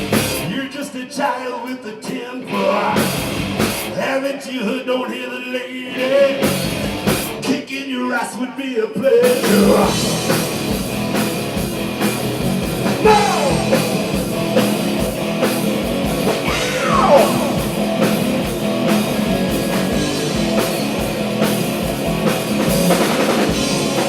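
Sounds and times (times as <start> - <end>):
rock band playing live: 0.0 - 0.9, 2.0 - 4.1, 6.0 - 7.6, 9.2 - 24.0.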